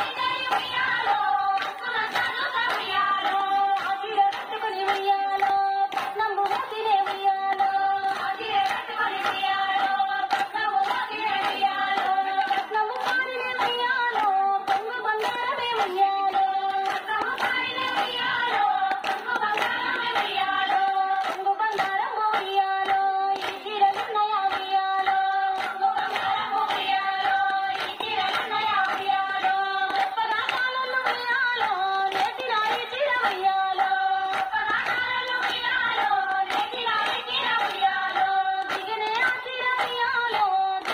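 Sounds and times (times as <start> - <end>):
rhythmic hand clapping: 0.0 - 40.9
women singing folk song: 0.0 - 40.9.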